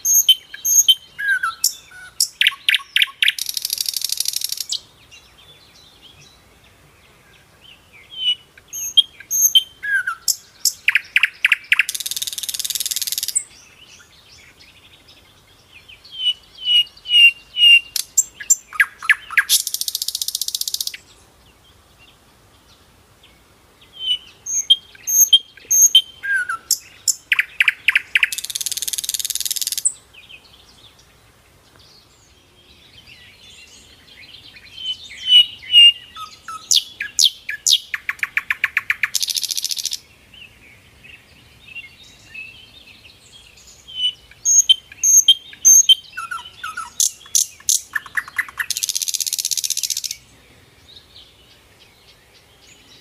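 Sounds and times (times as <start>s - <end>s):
songbird chirps and buzzy trill: 0.0s - 53.0s.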